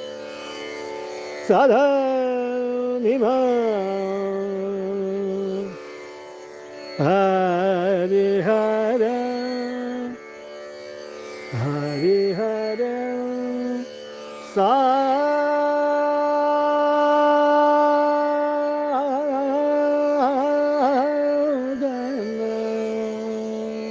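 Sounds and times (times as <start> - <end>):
man singing wordless melody: 1.4 - 5.8, 7.0 - 10.3, 11.5 - 23.9.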